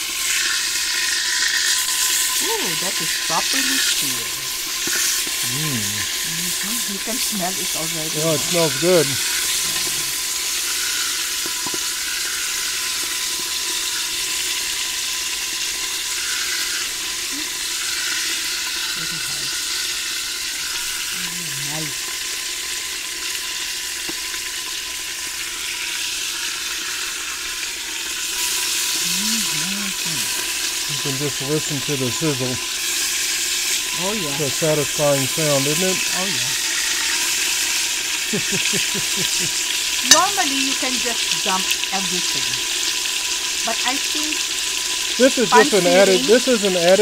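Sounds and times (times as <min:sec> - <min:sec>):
meat sizzling in hot fat: 0:00.0 - 0:47.0
tongs turning meat: 0:00.2 - 0:13.2, 0:16.2 - 0:22.2, 0:25.6 - 0:47.0.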